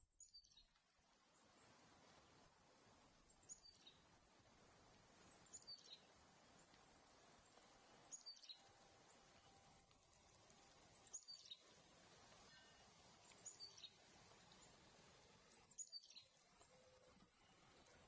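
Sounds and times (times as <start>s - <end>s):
songbird singing: 0.0s - 18.0s
steady soft hiss: 0.0s - 18.0s.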